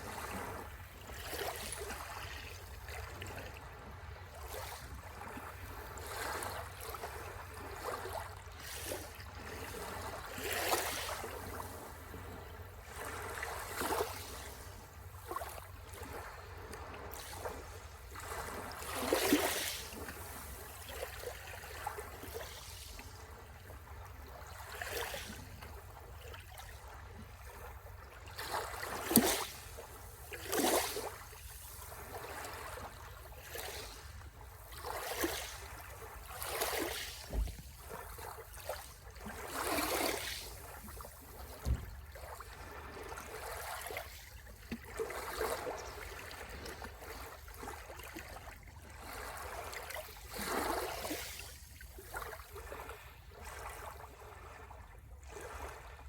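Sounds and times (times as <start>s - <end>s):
small waves lapping at shore: 0.0s - 56.0s.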